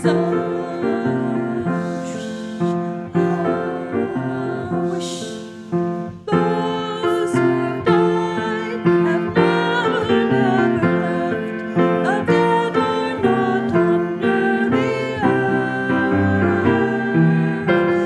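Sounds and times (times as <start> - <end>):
congregation singing a hymn: 0.0 - 18.0
piano accompaniment: 0.0 - 18.0.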